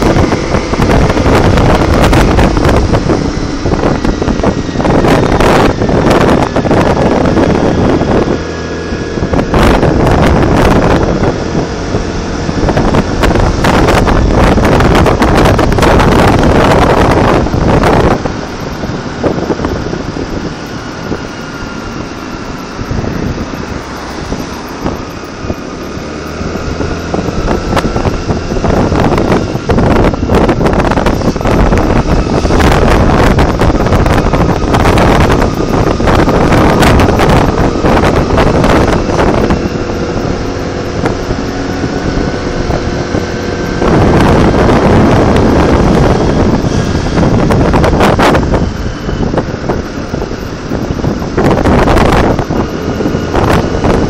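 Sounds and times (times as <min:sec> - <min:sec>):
vehicle running noise: 0:00.0 - 0:54.0
wind buffeting microphone: 0:00.0 - 0:54.0.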